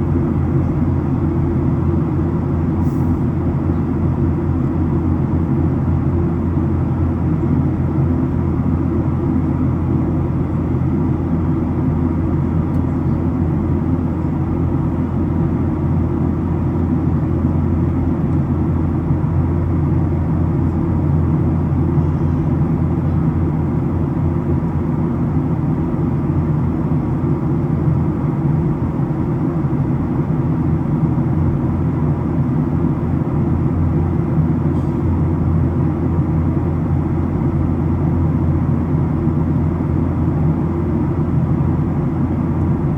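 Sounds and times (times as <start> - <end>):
airplane cabin engine drone: 0.0 - 42.9.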